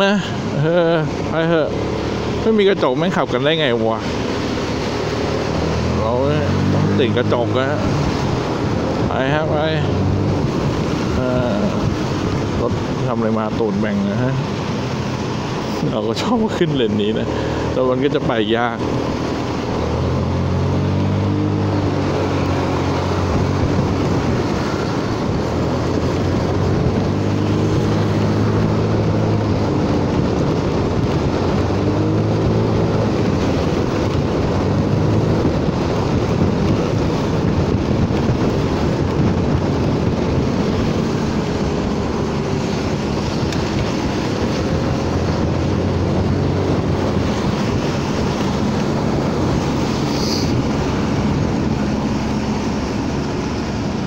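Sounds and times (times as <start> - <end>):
tyres hissing on wet road: 0.0 - 54.0
wind rush on microphone: 0.0 - 54.0.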